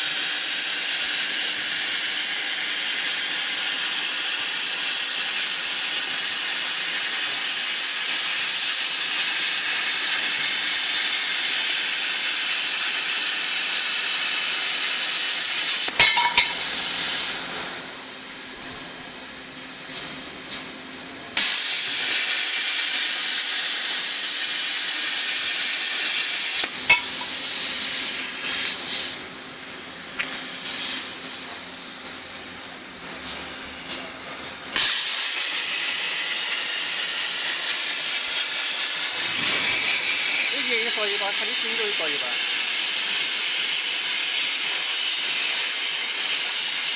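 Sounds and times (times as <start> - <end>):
plasma cutter arc hissing: 0.0 - 46.9.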